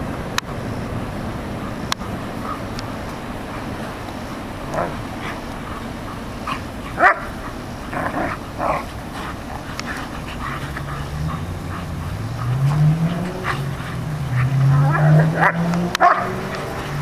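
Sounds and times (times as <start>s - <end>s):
dogs barking: 1.6s - 17.0s.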